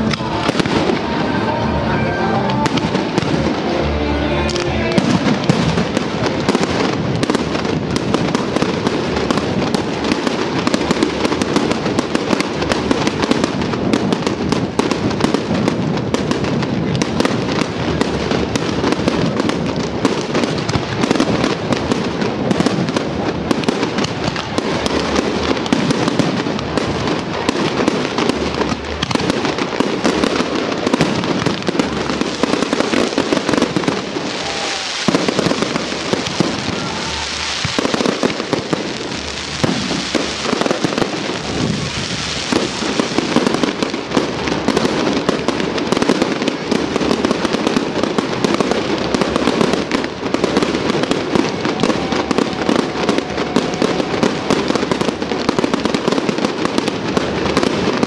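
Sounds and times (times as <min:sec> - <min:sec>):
fireworks bursting and crackling: 0:00.0 - 0:58.0
hissing crackle: 0:04.5 - 0:58.0.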